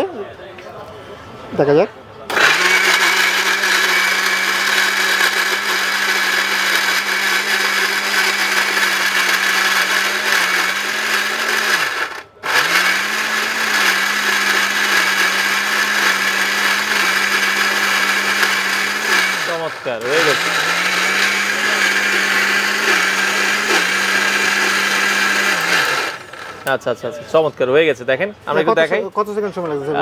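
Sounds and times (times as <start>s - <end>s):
mixer grinder motor running: 2.3s - 26.7s.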